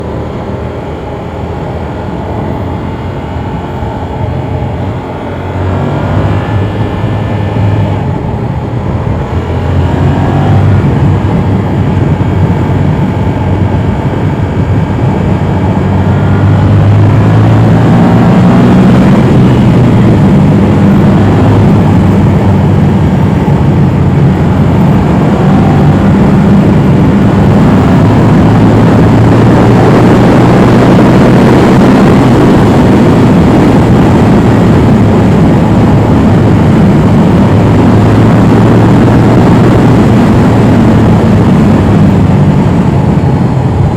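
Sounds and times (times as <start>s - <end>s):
motorcycle engine running: 0.0s - 43.9s
wind noise on microphone: 0.0s - 43.9s.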